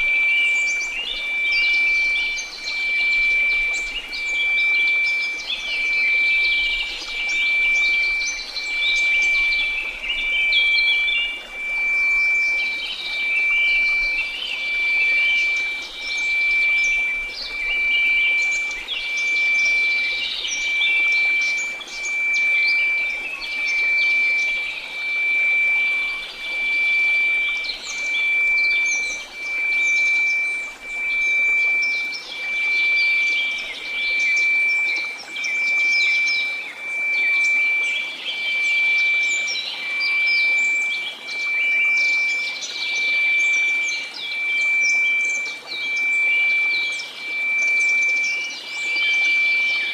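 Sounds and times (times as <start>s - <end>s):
bird chirps: 0.0s - 49.9s
pulsing sine tone: 0.0s - 49.9s.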